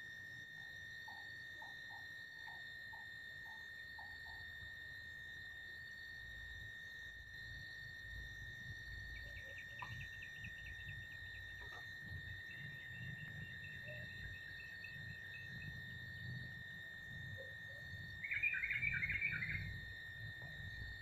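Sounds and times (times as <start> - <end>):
insects droning: 0.0 - 21.0
rapid insect chirps: 0.0 - 21.0.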